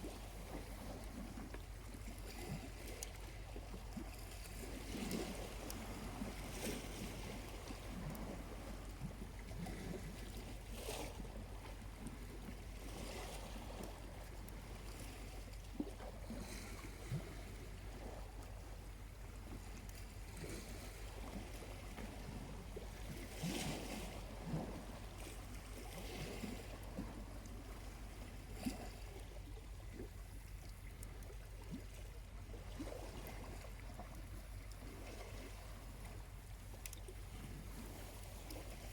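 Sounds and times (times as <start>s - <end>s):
small waves lapping on beach: 0.0s - 38.9s.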